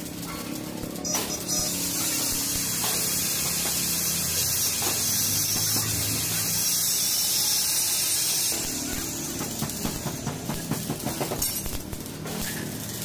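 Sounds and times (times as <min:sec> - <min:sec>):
arc welding frying hiss: 0:00.0 - 0:13.0.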